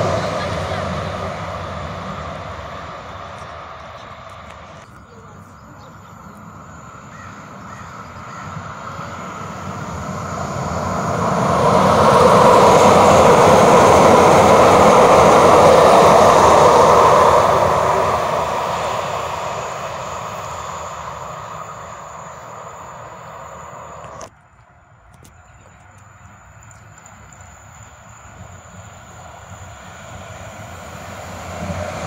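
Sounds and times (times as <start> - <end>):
train passing: 0.0 - 32.0.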